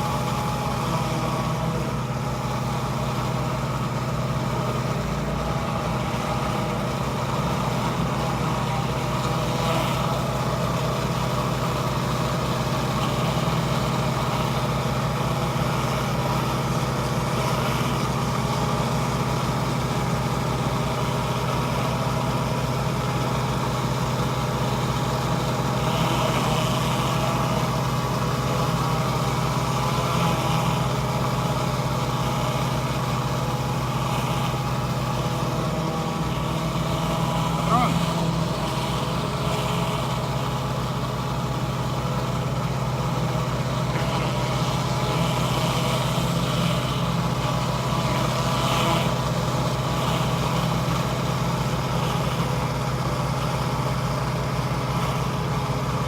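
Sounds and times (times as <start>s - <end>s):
pressure washer engine droning: 0.0s - 56.0s.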